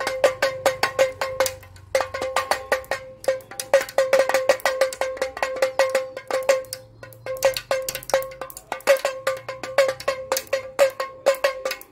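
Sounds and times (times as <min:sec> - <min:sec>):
pellet drum clicking: 0:00.0 - 0:11.9.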